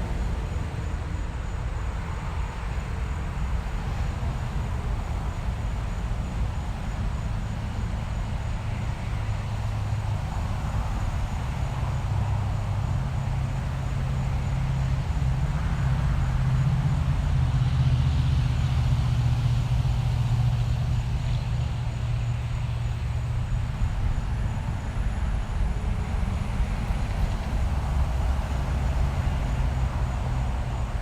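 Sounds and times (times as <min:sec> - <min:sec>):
rumble of passing cars and trucks: 0:00.0 - 0:31.0
tyres hissing on road: 0:00.0 - 0:31.0.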